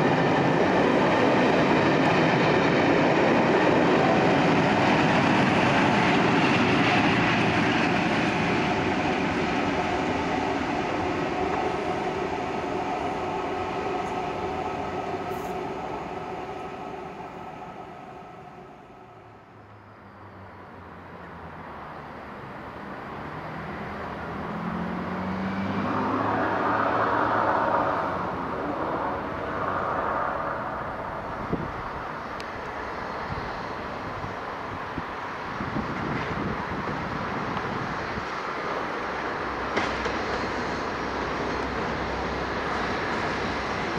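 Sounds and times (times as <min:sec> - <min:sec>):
diesel passenger train rumbling: 0:00.0 - 0:43.9.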